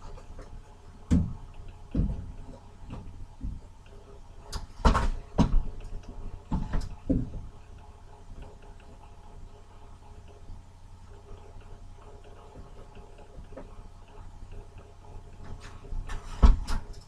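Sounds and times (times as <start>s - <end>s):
irregular knocks and thumps: 0.0s - 10.4s, 11.1s - 16.9s.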